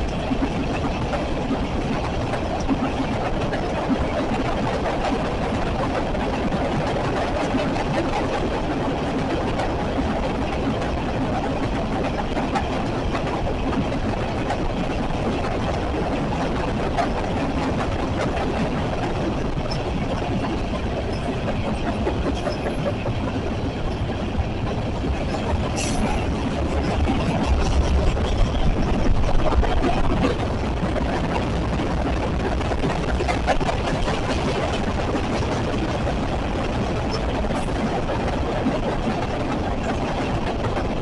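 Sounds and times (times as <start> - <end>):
freight train rumbling and clattering: 0.0 - 41.0.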